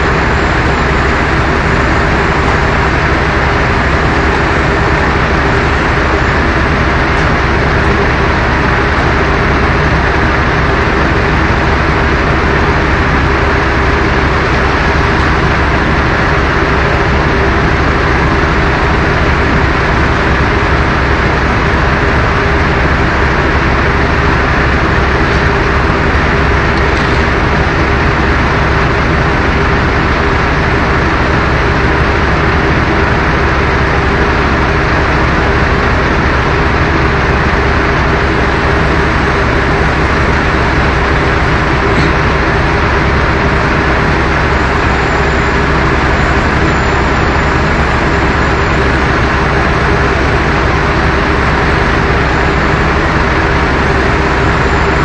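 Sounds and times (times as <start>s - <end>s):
loud machine engine hum: 0.0s - 55.0s.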